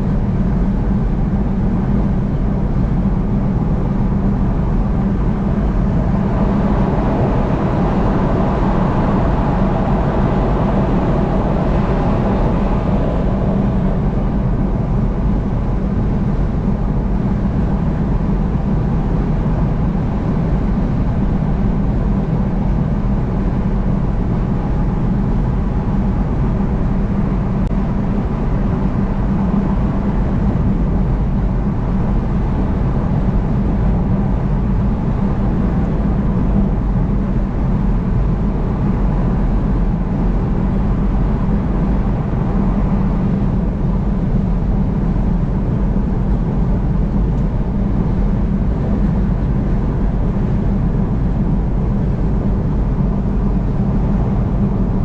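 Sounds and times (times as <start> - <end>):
vehicle road and engine noise: 0.0 - 55.0.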